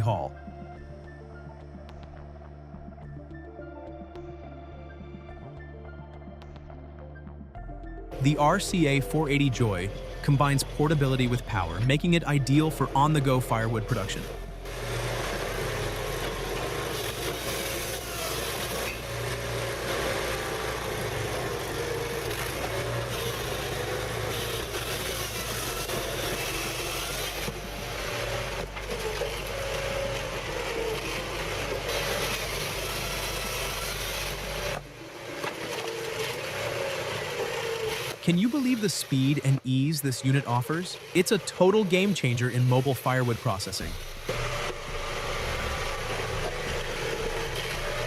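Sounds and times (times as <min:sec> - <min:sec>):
firewood processor engine drone: 0:00.0 - 0:48.0.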